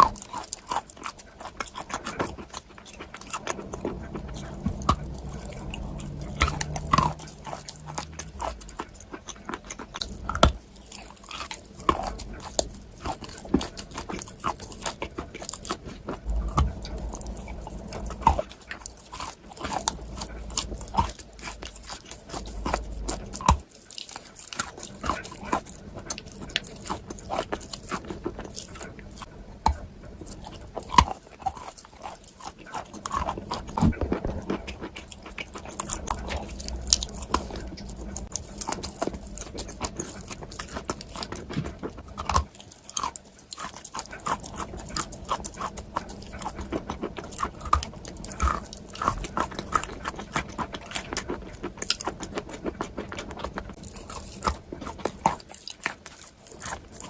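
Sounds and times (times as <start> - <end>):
chewing and biting: 0.0 - 57.0.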